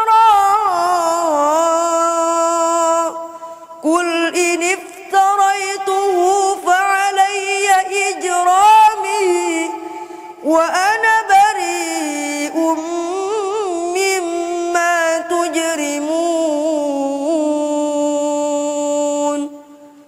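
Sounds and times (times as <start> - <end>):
boy reciting melodically: 0.0 - 20.0.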